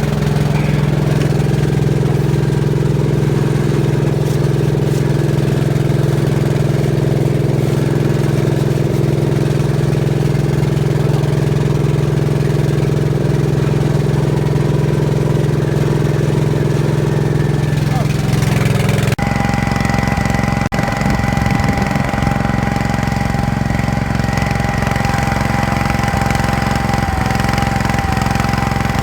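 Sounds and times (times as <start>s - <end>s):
garden tractor engine idling: 0.0s - 29.0s.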